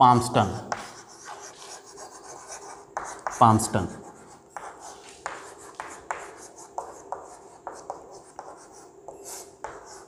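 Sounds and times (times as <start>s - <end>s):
chalk scratching on blackboard: 0.7s - 10.0s.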